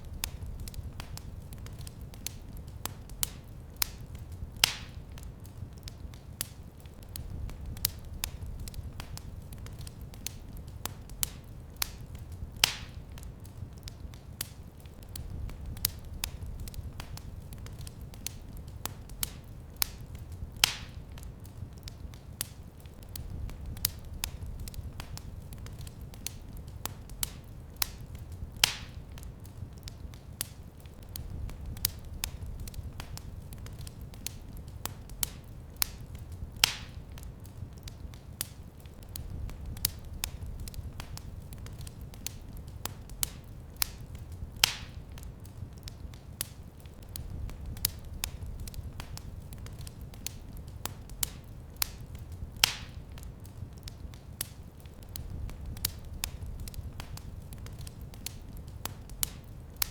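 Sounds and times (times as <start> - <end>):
fire crackling and popping: 0.0 - 59.9
low rumble of flame: 0.0 - 59.9.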